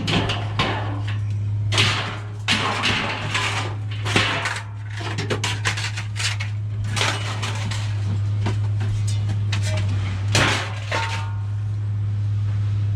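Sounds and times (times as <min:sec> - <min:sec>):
scrap metal clattering: 0:00.0 - 0:11.7
steady low hum: 0:00.0 - 0:12.9.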